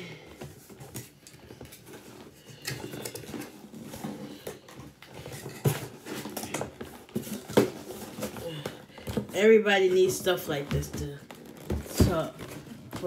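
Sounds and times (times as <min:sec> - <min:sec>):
cardboard and plastic handling: 0:00.2 - 0:13.0.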